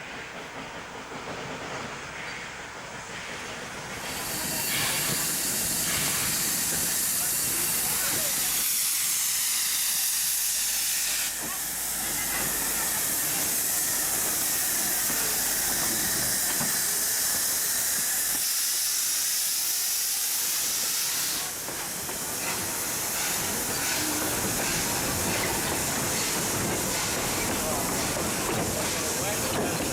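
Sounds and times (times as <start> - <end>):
steam locomotive hissing steam: 0.0 - 29.9.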